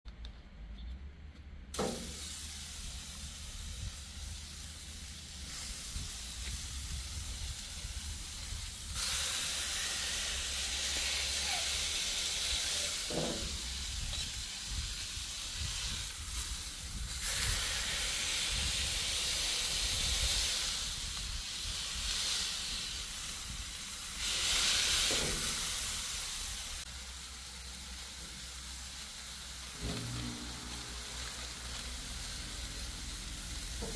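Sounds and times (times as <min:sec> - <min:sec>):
meat sizzling on griddle: 0:01.8 - 0:33.9.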